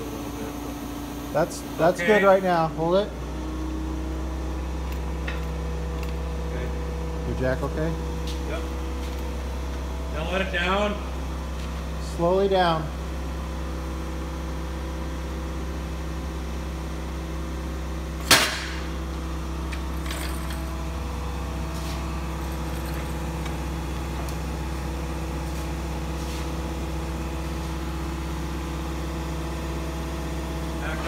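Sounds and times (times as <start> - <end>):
forklift humming: 0.0 - 31.0.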